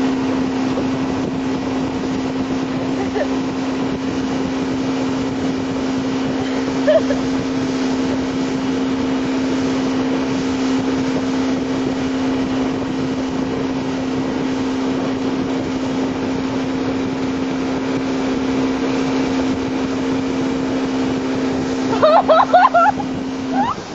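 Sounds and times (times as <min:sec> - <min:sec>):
motorboat engine humming: 0:00.0 - 0:23.9
rushing wake water: 0:00.0 - 0:23.9
wind: 0:00.0 - 0:23.9.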